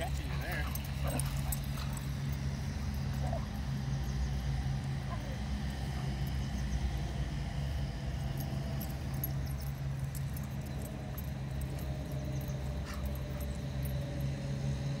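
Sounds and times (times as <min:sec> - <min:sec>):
collar tags jingling: 0:00.0 - 0:15.0.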